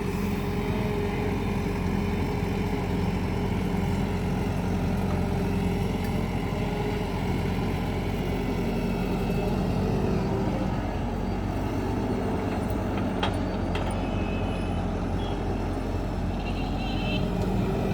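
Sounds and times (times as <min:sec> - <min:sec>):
diesel engine running: 0:00.0 - 0:16.6.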